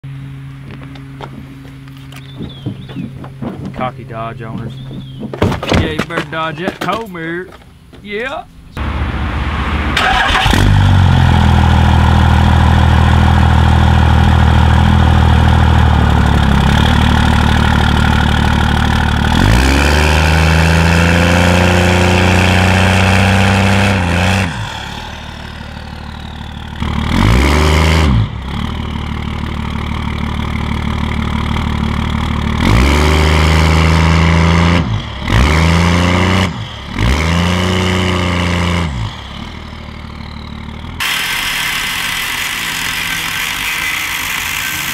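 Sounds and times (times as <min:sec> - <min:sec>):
diesel truck engine revving: 0:08.8 - 0:44.9.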